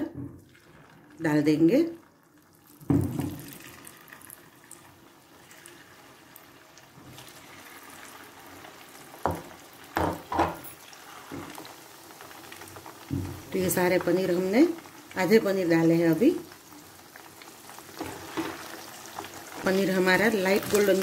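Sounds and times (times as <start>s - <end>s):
food sizzling in hot oil: 0.4s - 21.0s.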